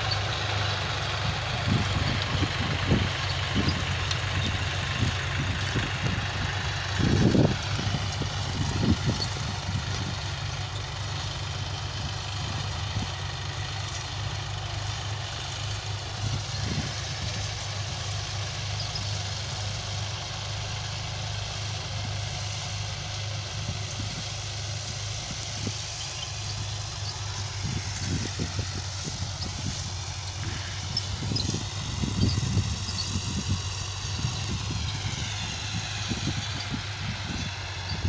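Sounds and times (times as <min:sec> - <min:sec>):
tractor diesel engine droning: 0:00.0 - 0:38.0.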